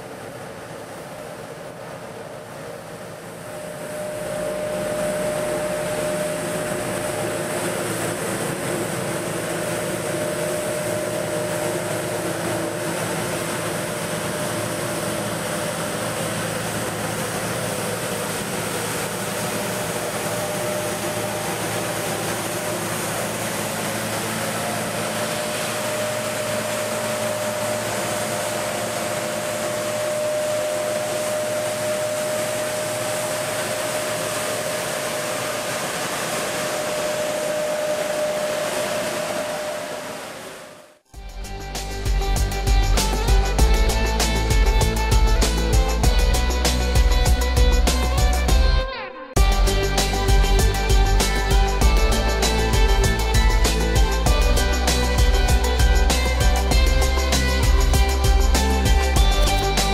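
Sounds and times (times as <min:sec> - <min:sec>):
steady machine whine: 0:00.0 - 0:59.9
road sweeper engine: 0:01.3 - 0:48.8, 0:49.4 - 0:59.9.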